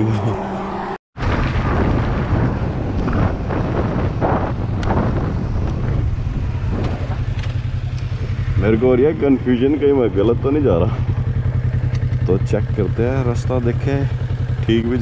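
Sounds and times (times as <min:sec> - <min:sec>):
motorcycle engine and tyres droning: 0:00.0 - 0:15.0
wind buffeting microphone: 0:01.2 - 0:13.6.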